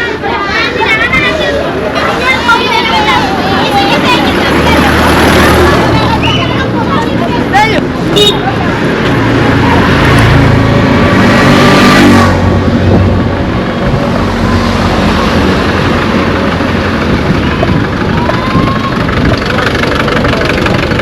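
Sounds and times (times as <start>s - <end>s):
street noise: 0.0s - 21.0s
vehicle engine passing by: 1.9s - 21.0s.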